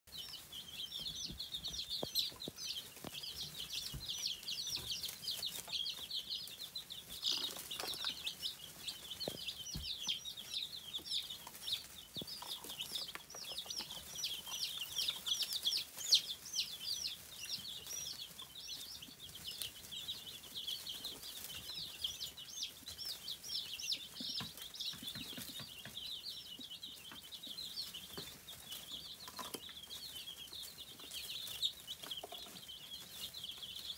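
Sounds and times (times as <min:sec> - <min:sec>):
baby chicks peeping: 0:00.1 - 0:33.9.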